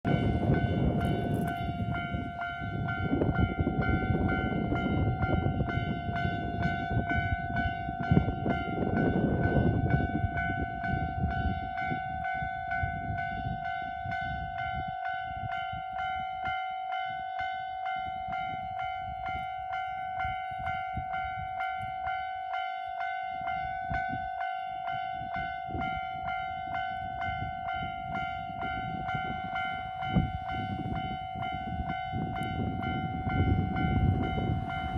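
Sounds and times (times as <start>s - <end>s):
level crossing warning bell: 0.0s - 34.9s.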